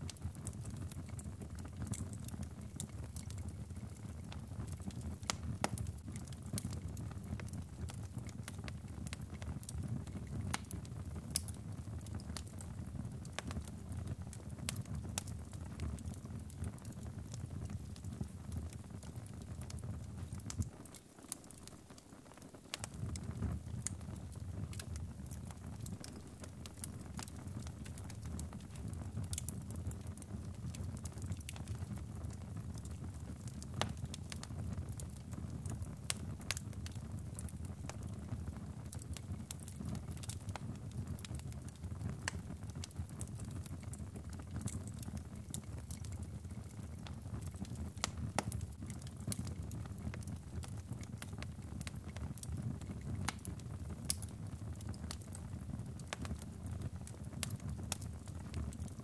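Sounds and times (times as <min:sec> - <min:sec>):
fire crackling and popping: 0:00.0 - 0:59.0
low rumble of flame: 0:00.0 - 0:59.0.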